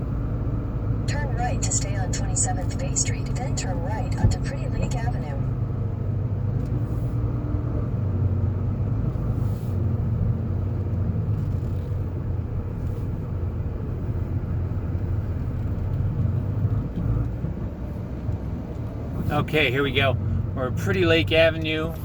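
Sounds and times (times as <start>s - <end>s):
car driving interior rumble: 0.0s - 22.0s.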